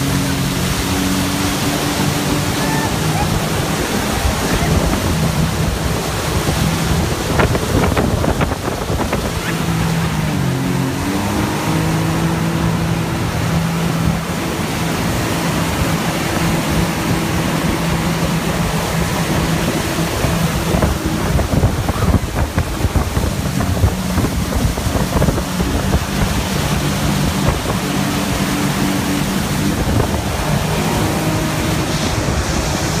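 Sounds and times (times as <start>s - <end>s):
churning boat wake: 0.0s - 33.0s
motorboat engine humming: 0.0s - 33.0s
wind buffeting microphone: 0.0s - 33.0s.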